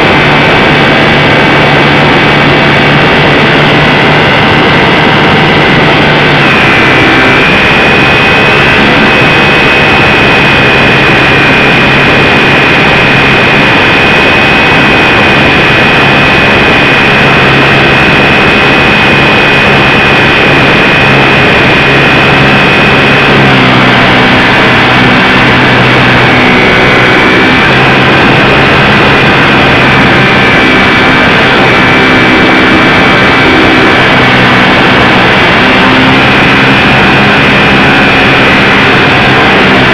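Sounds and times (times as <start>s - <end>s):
model plane motor whine: 0.0s - 39.9s
rushing air noise: 0.0s - 39.9s.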